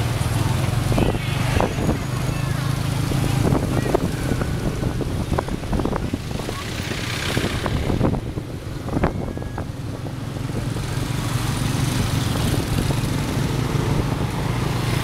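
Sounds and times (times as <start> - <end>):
hum of motorbike traffic: 0.0 - 15.0
motorbike engine running: 0.0 - 15.0.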